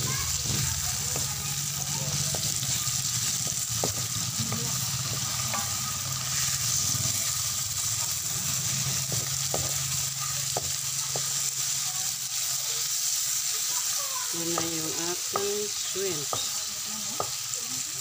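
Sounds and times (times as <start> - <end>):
shrimps sizzling in a pan: 0.0 - 18.0.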